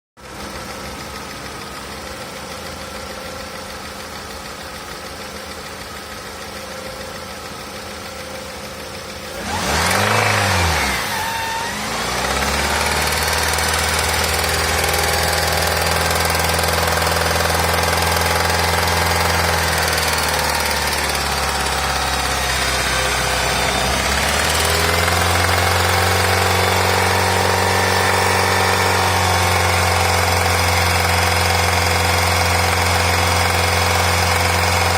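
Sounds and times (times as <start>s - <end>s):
engine knocking: 0.2s - 10.6s, 12.1s - 34.9s
car engine idling and revving: 0.2s - 34.9s.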